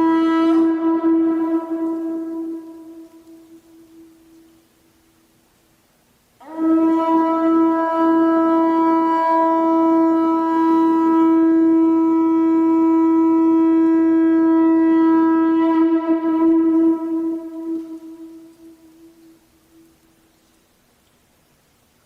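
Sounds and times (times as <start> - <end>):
conch shell trumpet note: 0.0 - 4.7, 6.4 - 20.2.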